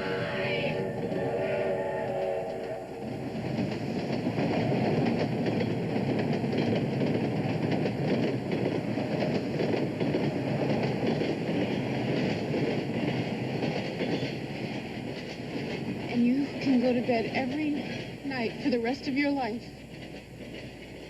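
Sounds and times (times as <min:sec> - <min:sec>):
train wheels rattling on rails: 0:00.0 - 0:21.0.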